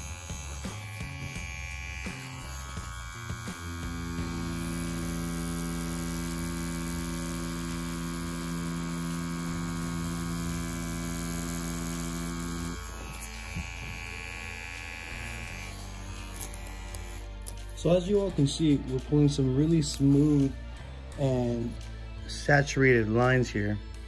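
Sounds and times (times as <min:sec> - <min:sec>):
tattoo machine humming: 0:00.0 - 0:22.0.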